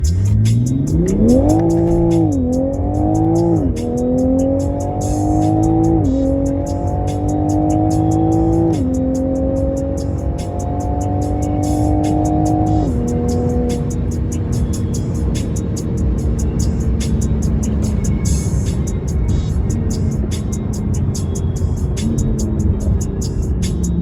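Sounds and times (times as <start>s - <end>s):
background music with quick beat: 0.0s - 24.0s
car engine accelerating through gears: 0.0s - 24.0s.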